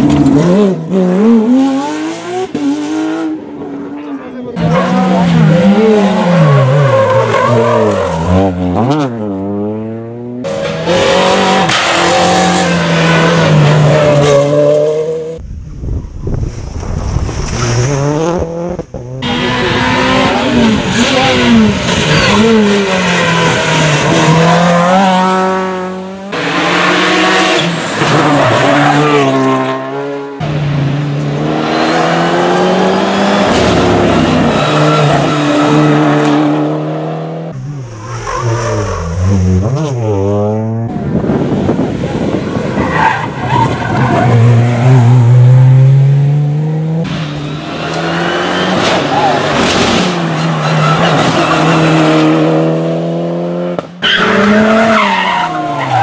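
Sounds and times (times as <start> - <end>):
rally car engines revving: 0.0 - 15.4, 17.2 - 56.0.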